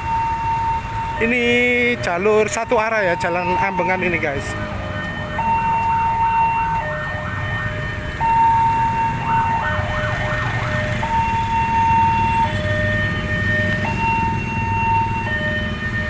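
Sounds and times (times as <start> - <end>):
idling engines: 0.0 - 16.0
level crossing warning bell: 0.0 - 16.0.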